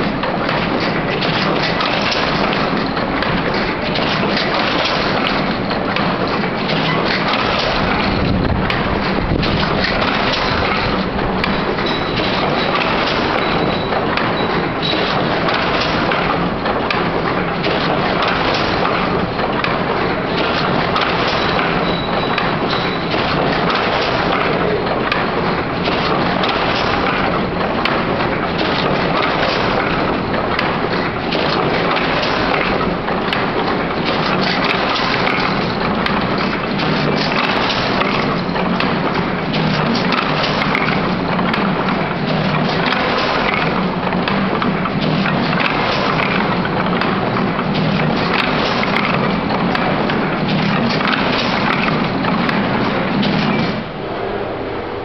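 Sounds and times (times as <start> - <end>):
net making machine clattering: 0.0 - 54.0.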